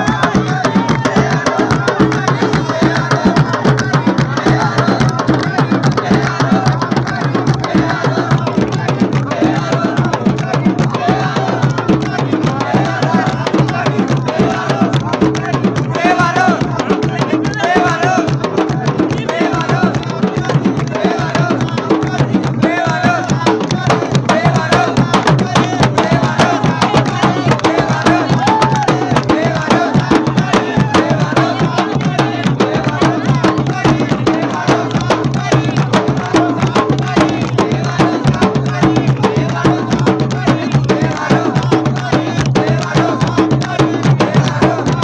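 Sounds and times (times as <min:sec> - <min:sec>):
barrel drums beaten by hand: 0:00.0 - 0:45.0
men singing and shouting: 0:00.0 - 0:45.0.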